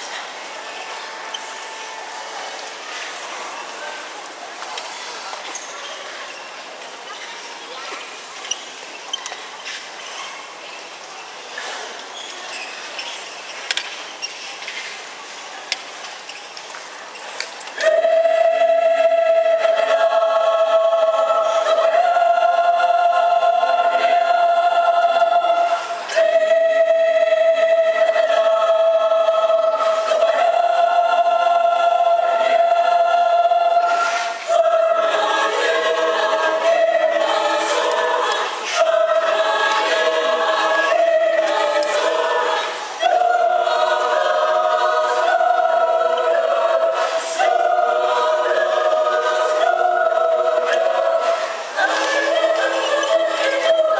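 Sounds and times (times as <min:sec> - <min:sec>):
mixed choir singing held notes: 0:00.0 - 0:14.3, 0:17.0 - 0:53.9.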